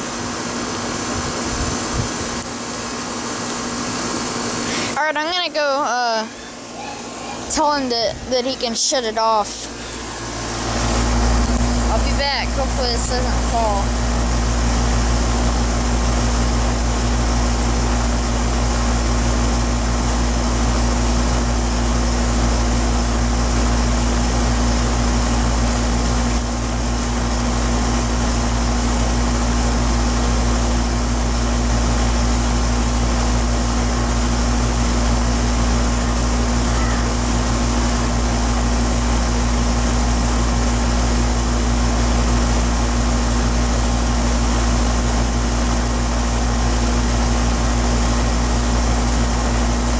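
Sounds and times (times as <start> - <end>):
compressor hum: 0.0 - 49.9
condenser fan rushing air: 0.0 - 49.9.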